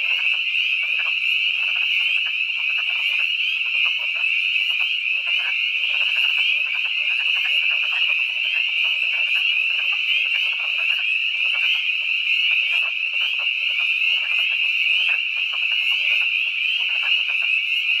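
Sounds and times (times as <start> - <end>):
frogs high peeping chorus: 0.0 - 18.0
frogs low clucking calls: 0.0 - 18.0.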